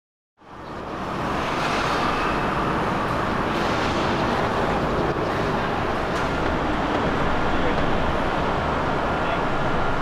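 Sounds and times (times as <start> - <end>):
road traffic: 0.4 - 10.0.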